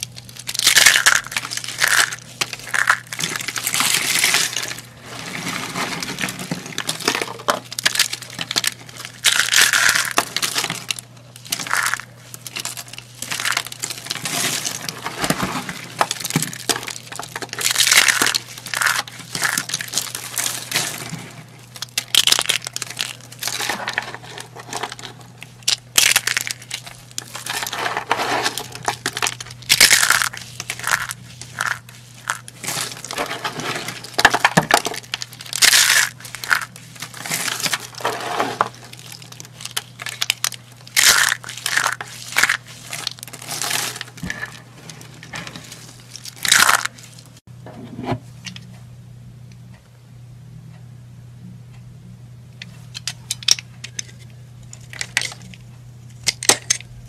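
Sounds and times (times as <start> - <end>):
soap shavings crunching: 0.0 - 47.4
faint low hum: 0.0 - 57.0.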